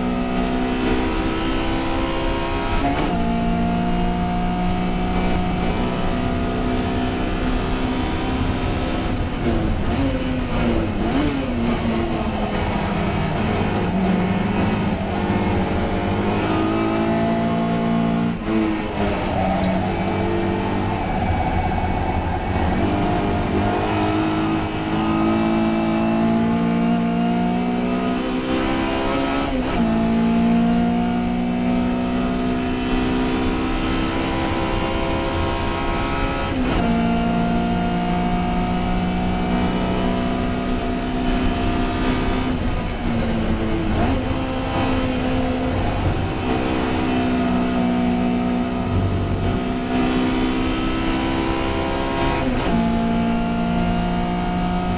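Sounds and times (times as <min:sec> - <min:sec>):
race car engine running hard: 0:00.0 - 0:54.9.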